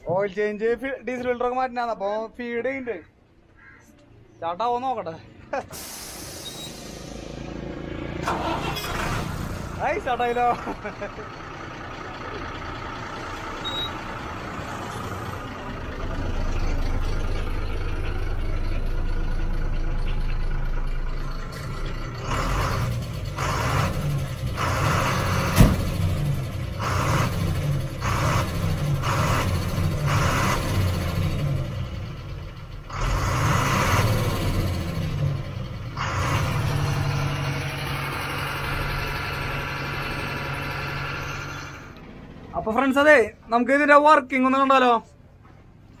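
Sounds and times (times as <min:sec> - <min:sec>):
diesel truck engine idling: 0:05.8 - 0:45.9.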